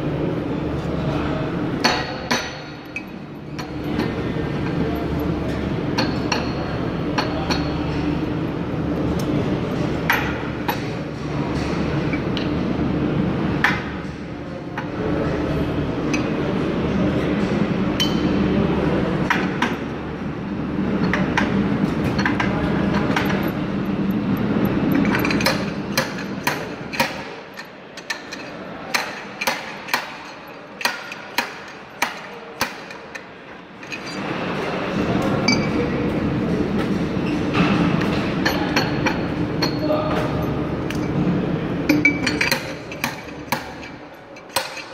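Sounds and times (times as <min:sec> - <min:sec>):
low background hum: 0:00.0 - 0:44.9.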